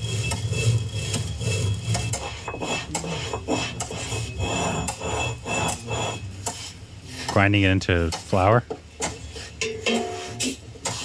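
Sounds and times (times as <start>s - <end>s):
stone scraping on stone: 0.0s - 7.4s, 9.1s - 11.0s.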